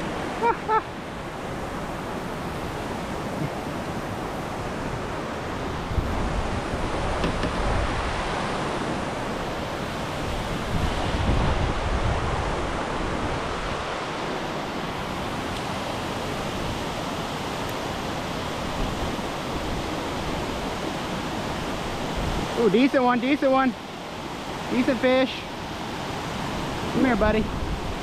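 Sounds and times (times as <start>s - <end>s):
wind buffeting microphone: 0.0s - 22.7s
river water rushing over dam: 0.0s - 28.0s.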